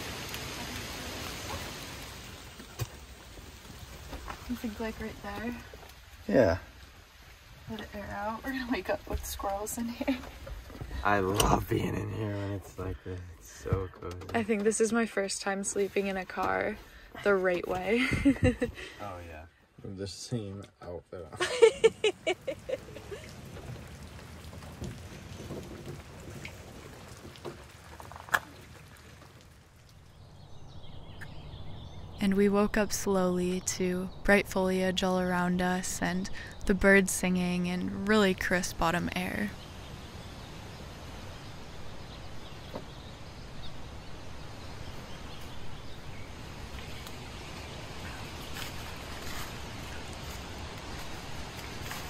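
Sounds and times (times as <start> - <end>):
light rain pattering on car: 0.0 - 20.8, 21.4 - 31.5, 35.3 - 52.0.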